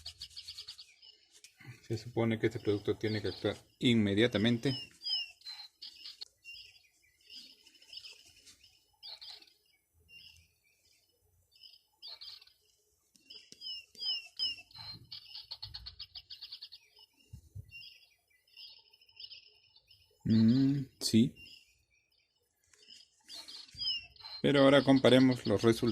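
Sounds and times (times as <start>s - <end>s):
small birds chirping and trilling: 0.0s - 25.9s.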